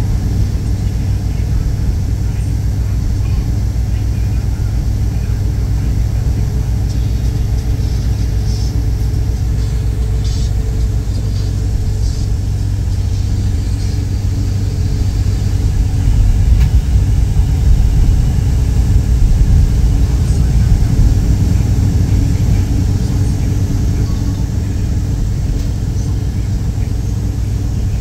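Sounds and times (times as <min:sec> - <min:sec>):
vehicle rumble from inside: 0:00.0 - 0:28.0.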